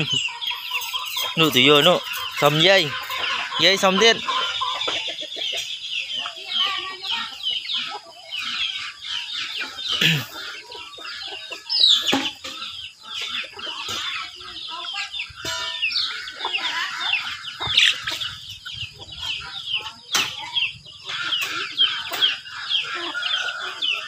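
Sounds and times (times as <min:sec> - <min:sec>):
chicks peeping: 0:00.0 - 0:24.0
hens clucking: 0:00.0 - 0:24.0.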